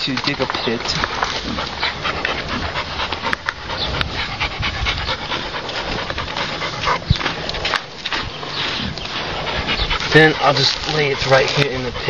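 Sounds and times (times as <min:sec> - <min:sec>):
digging clicks in dry ground: 0:00.0 - 0:04.2, 0:05.2 - 0:12.0
dog panting: 0:00.1 - 0:12.0.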